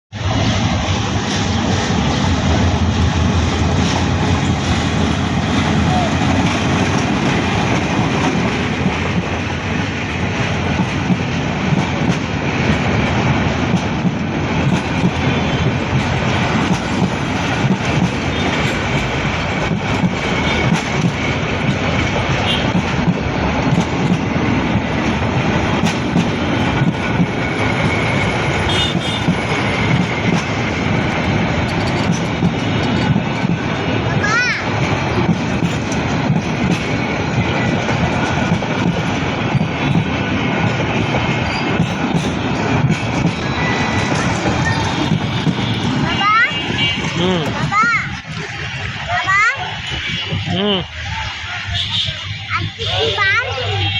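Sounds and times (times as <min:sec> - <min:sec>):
train carriages rumbling: 0:00.1 - 0:53.9
wheels clattering over rail joints: 0:03.2 - 0:50.5.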